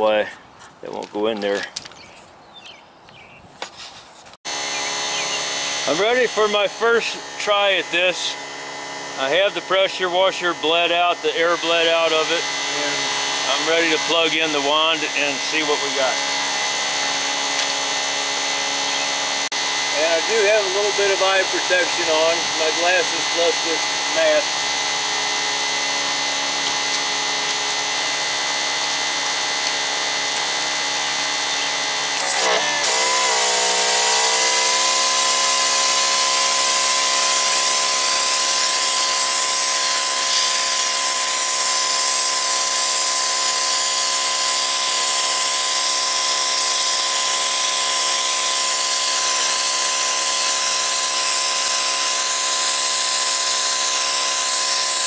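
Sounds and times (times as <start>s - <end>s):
pressure washer motor humming: 4.5s - 55.0s.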